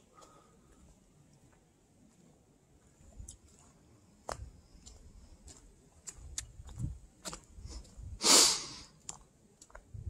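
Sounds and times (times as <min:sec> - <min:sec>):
footsteps on gravel trail: 0:00.0 - 0:10.0.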